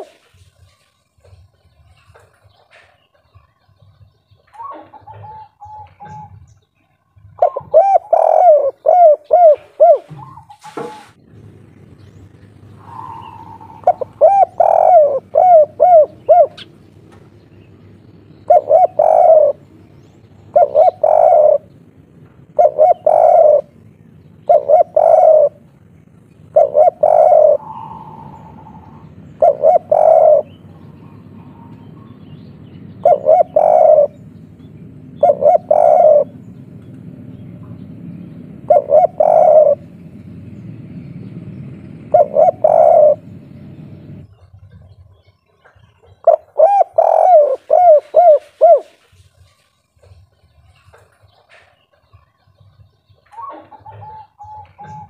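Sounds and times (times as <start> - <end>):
dove cooing: 0.0 - 49.4, 53.2 - 55.0.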